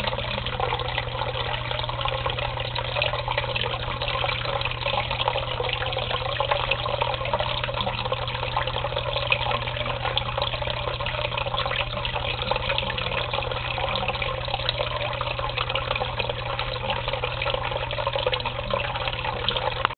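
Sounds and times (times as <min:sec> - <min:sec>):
water splashing into tank: 0:00.0 - 0:19.9.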